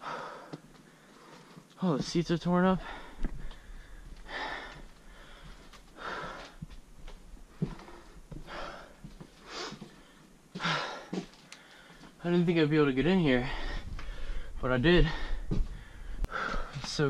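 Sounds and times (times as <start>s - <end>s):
man breathing heavily: 0.0s - 1.8s, 2.4s - 12.2s, 13.2s - 17.0s.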